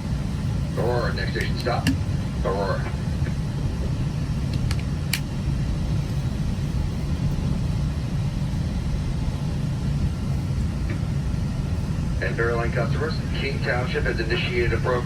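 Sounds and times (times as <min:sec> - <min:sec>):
train rumbling inside coach: 0:00.0 - 0:15.0.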